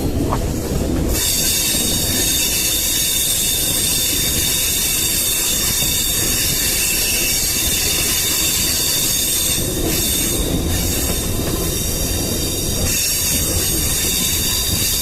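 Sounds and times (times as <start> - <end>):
train wheels squealing on rails: 0.0 - 15.0
wheels rumbling on track: 0.0 - 15.0.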